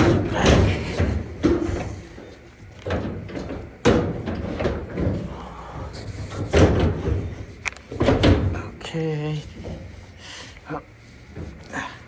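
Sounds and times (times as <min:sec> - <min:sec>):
dryer part knocking and clunking: 0:00.0 - 0:08.8, 0:09.5 - 0:10.0, 0:11.3 - 0:11.8.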